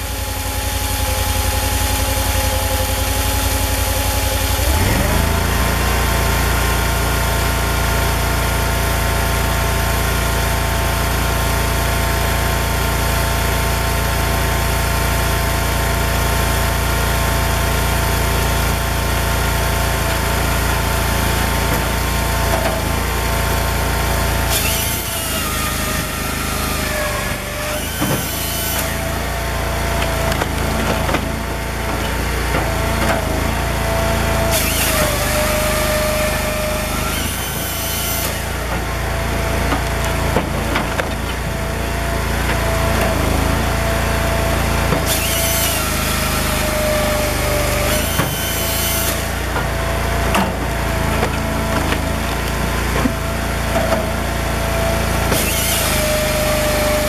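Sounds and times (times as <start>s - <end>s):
chainsaw cutting through log: 0.0s - 57.0s
firewood processor running: 0.0s - 57.0s.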